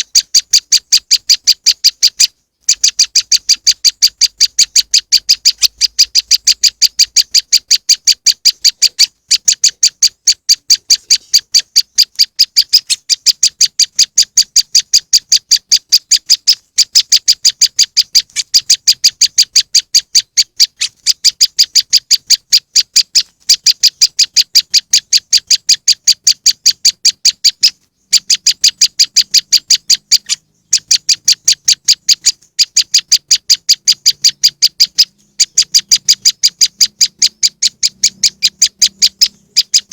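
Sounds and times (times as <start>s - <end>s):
bird call high sharp chips: 0.0s - 39.9s.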